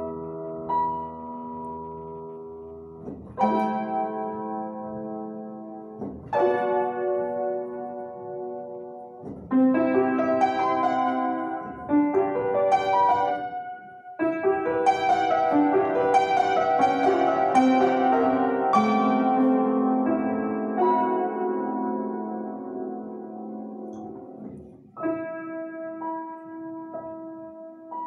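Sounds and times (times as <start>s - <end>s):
upright piano playing: 0.0s - 28.0s.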